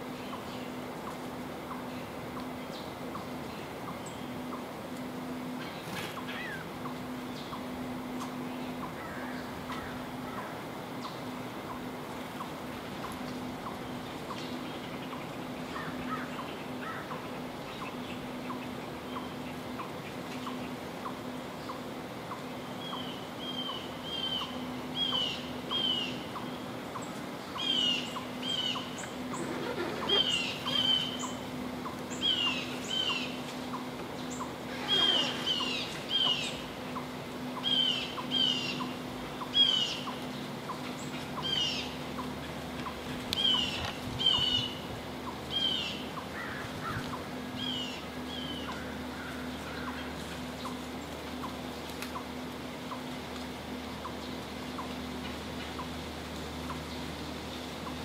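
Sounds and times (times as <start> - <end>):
songbirds chirping: 0.0 - 58.0
steady low hum: 0.0 - 58.0.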